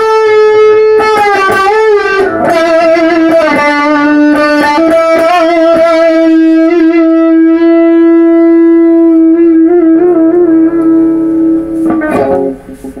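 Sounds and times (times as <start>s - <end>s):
picked guitar notes: 0.0s - 13.0s.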